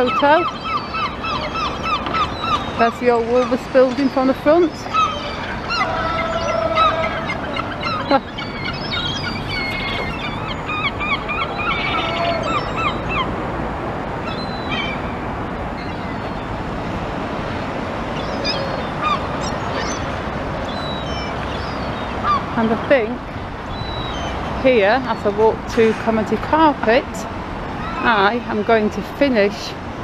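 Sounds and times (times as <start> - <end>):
gulls calling: 0.0 - 13.4, 14.2 - 16.7, 17.6 - 29.8
traffic: 0.0 - 30.0
wind: 0.0 - 30.0.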